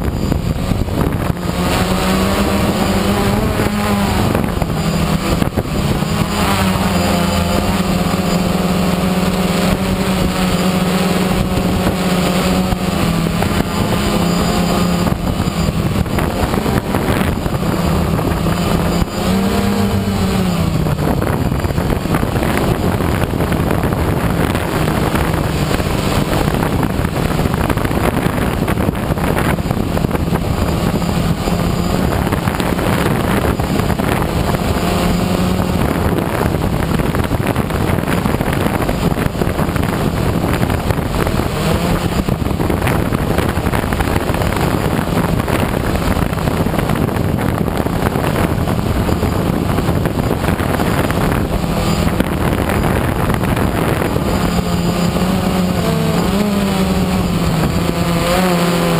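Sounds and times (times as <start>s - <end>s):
drone propellers buzzing hum: 0.0s - 58.9s.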